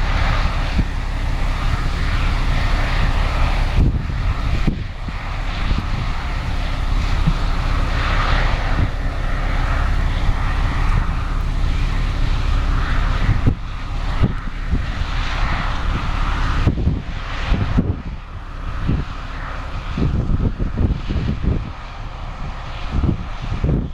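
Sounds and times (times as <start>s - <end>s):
combine engine and threshing drone: 0.0s - 23.9s.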